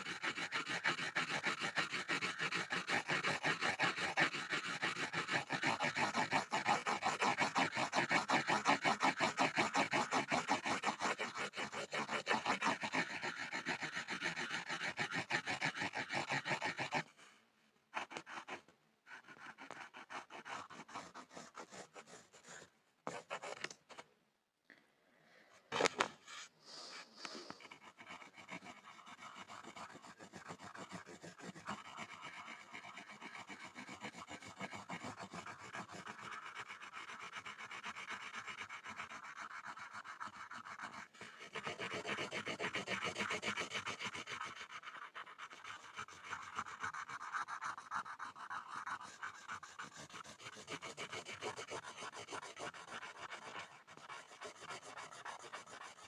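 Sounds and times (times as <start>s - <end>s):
pencil scribbling on a board: 0.0s - 24.1s, 25.7s - 56.0s.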